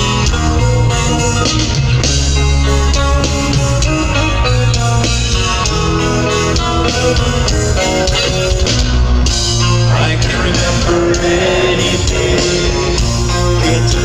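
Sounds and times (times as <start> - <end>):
electric guitar melody: 0.0 - 14.0
live rock band playing: 0.0 - 14.0.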